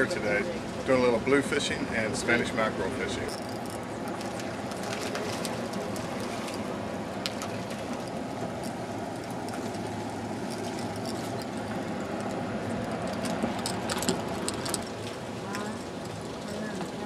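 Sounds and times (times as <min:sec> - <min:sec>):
sea: 0:00.0 - 0:17.0
wind: 0:00.0 - 0:17.0.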